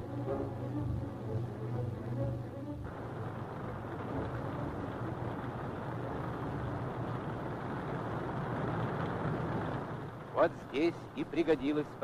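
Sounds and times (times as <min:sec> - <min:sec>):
music: 0:00.0 - 0:09.9
military vehicle engine running: 0:00.0 - 0:12.0.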